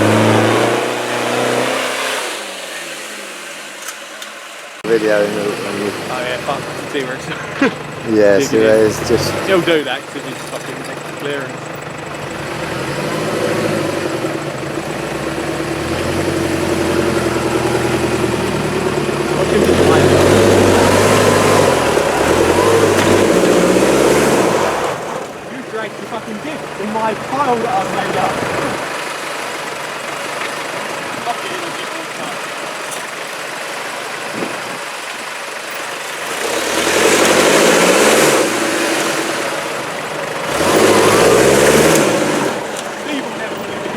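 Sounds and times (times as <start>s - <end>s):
off-road engine running: 0.0s - 43.9s.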